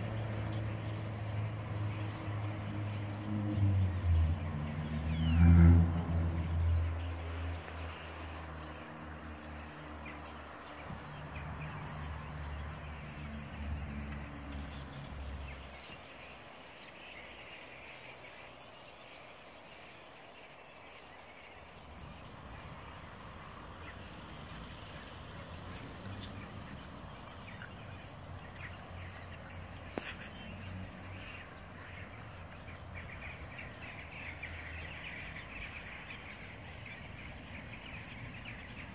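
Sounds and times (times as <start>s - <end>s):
vehicle engine hum: 0.0s - 18.9s, 21.3s - 38.9s
starlings chattering: 0.0s - 38.9s.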